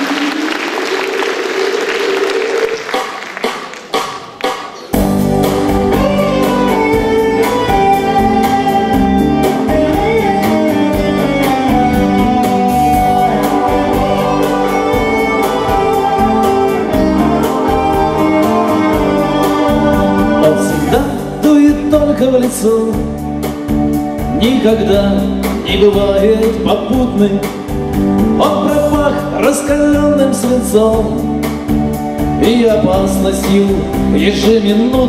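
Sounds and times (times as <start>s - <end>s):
live band playing: 0.0s - 35.0s
guitar: 4.9s - 35.0s.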